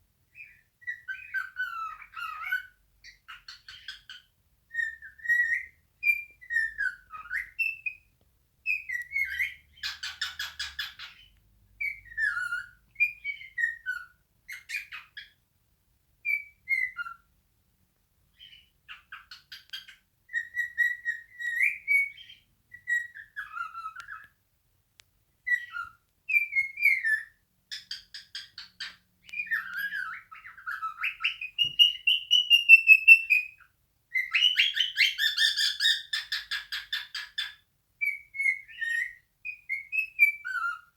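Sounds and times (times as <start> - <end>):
cockatiel singing: 0.3 - 15.4, 16.2 - 17.3, 18.3 - 24.4, 25.4 - 40.9.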